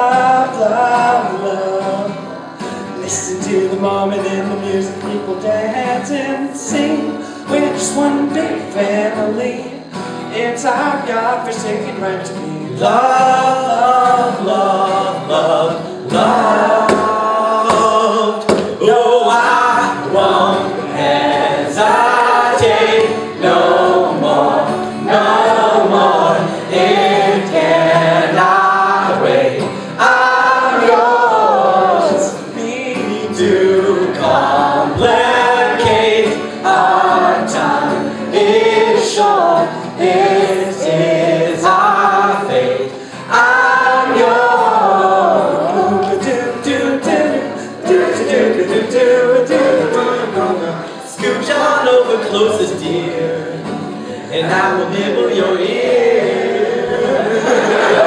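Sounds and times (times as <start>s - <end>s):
acoustic guitar: 0.0s - 58.0s
two men singing: 0.0s - 58.0s.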